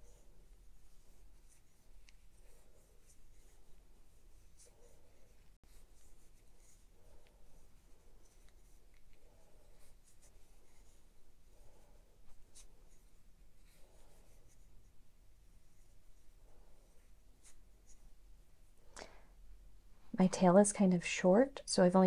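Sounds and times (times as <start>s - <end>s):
yarn rustling over crochet hook: 0.0s - 18.2s.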